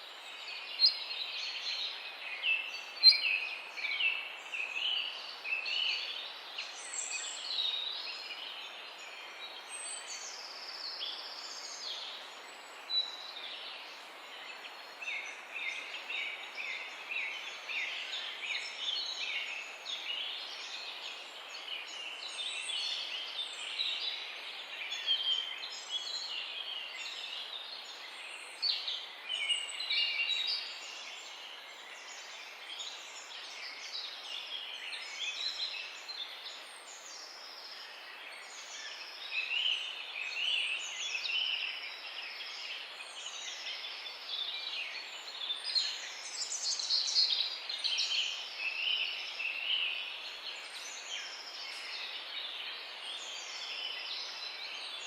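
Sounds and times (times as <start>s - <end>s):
songbirds singing: 0.0s - 55.0s
steady background hiss: 0.0s - 55.0s.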